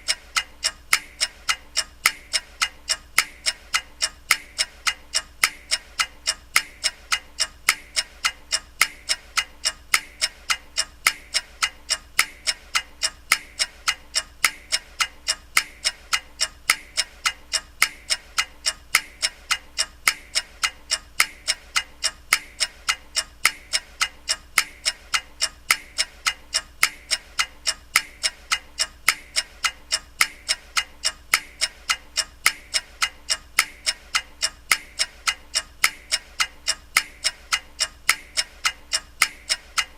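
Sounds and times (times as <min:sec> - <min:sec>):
clock ticking: 0:00.0 - 0:39.9
faint steady hum: 0:00.0 - 0:39.9.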